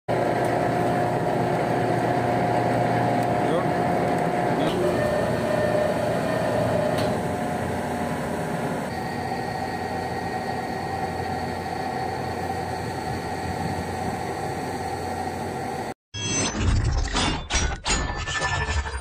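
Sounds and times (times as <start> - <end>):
ship machinery drone: 0.1 - 16.0.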